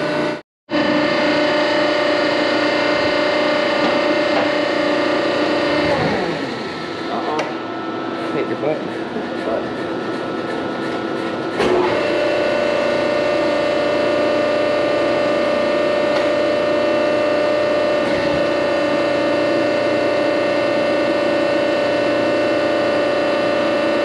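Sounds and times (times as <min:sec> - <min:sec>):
hydraulic pump motor humming: 0:00.0 - 0:24.0.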